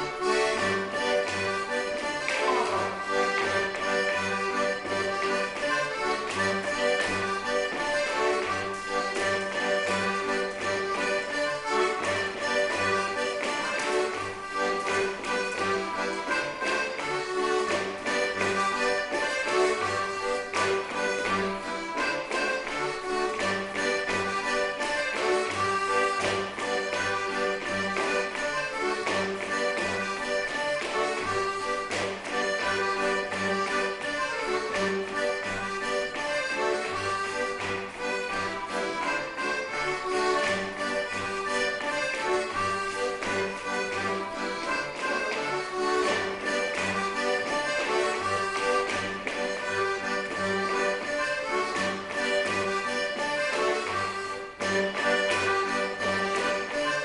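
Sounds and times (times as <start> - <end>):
accordion playing dance tune: 0.0 - 57.0.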